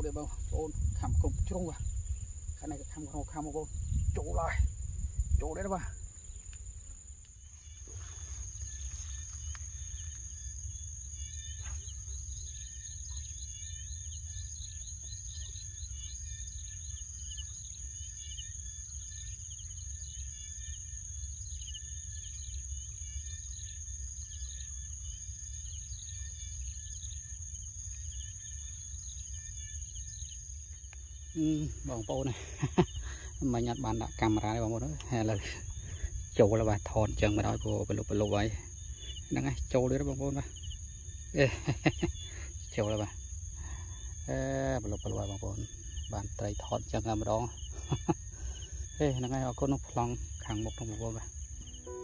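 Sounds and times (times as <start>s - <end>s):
marsh insects calling: 0.0s - 52.0s.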